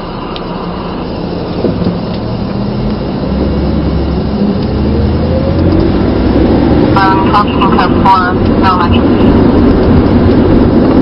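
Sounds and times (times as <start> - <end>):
car engine from inside cabin: 0.0 - 11.0
road noise: 0.0 - 11.0.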